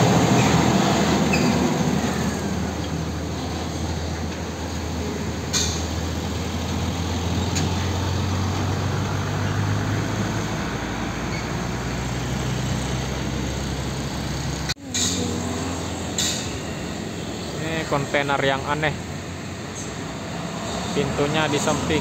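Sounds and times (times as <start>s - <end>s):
diesel engine rolling slowly: 0.0s - 22.0s
truck engine hum and tyre noise: 0.0s - 22.0s.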